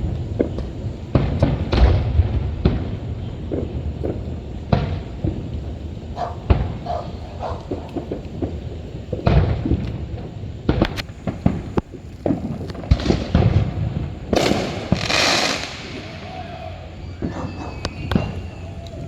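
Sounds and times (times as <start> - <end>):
fireworks bangs and booms: 0.0 - 19.0
fireworks crackling: 0.0 - 19.0.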